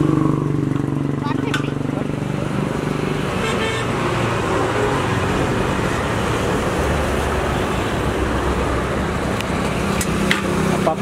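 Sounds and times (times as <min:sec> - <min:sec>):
deep traffic rumble: 0:00.0 - 0:11.0
road traffic noise: 0:00.0 - 0:11.0.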